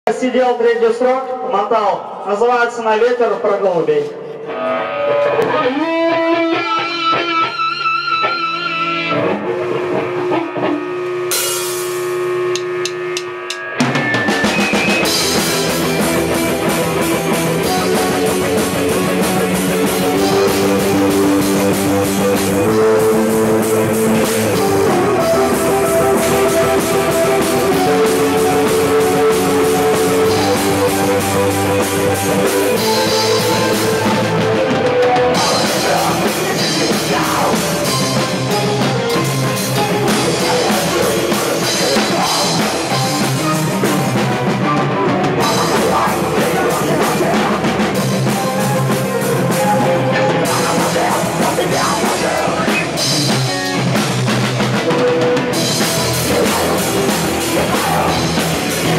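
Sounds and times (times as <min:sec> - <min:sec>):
rock band playing: 0:04.3 - 0:58.9
plucked guitar notes: 0:04.4 - 0:58.9.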